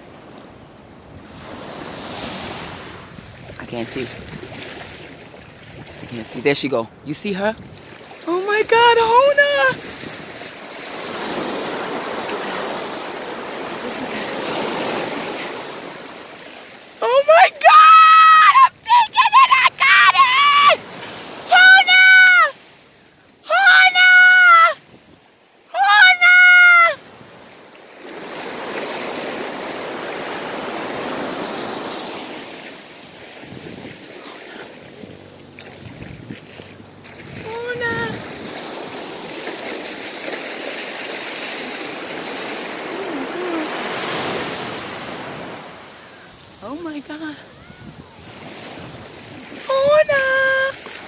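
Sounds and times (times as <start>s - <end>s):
waves washing over sand: 0.0s - 51.0s.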